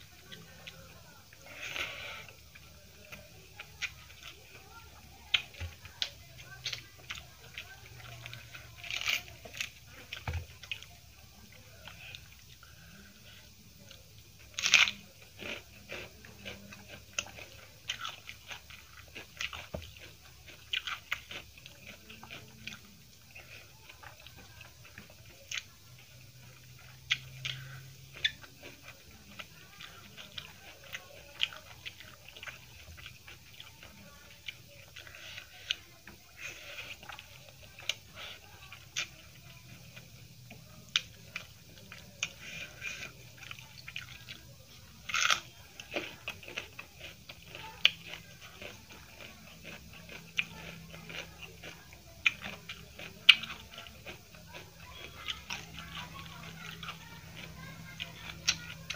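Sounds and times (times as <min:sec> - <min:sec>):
person chewing and biting food: 0:05.2 - 0:13.0, 0:13.8 - 0:39.2, 0:39.9 - 0:58.9.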